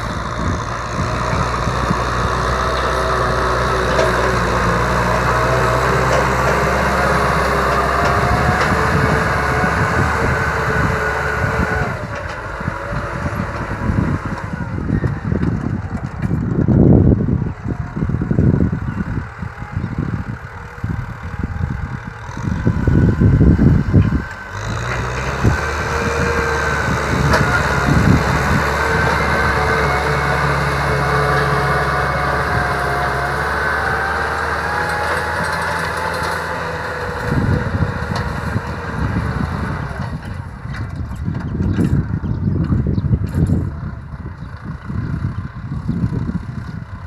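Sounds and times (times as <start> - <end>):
tractor diesel engine running: 0.0 - 47.0
uneven low rumbling: 0.0 - 47.0.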